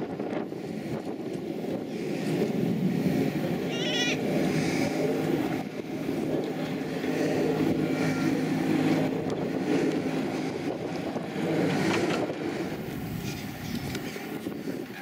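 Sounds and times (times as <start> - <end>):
locomotive engine drone: 0.0 - 15.0
wind on microphone: 0.0 - 15.0.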